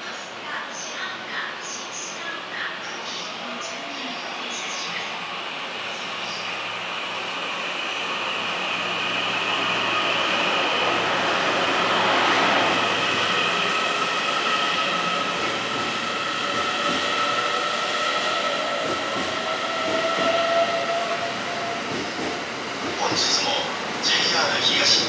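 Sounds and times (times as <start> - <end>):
high whines of train: 0.0 - 25.0
train rumbling along track: 0.0 - 25.0.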